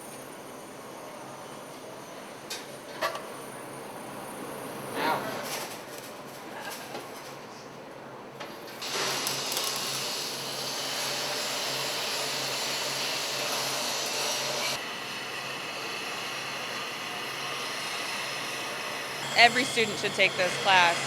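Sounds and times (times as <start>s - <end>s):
low hum of shop equipment: 0.0s - 19.9s.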